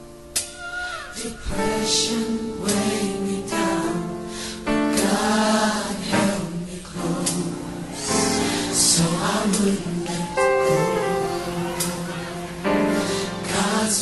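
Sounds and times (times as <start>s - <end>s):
gospel choir singing: 0.6s - 14.0s.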